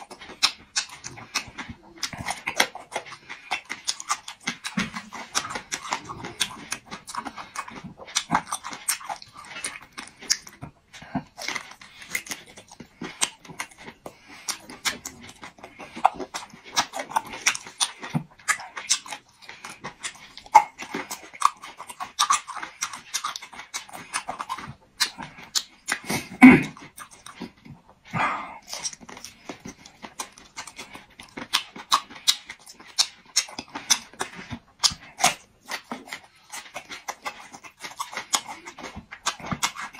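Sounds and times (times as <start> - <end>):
chewing and lip-smacking: 0.0 - 39.9.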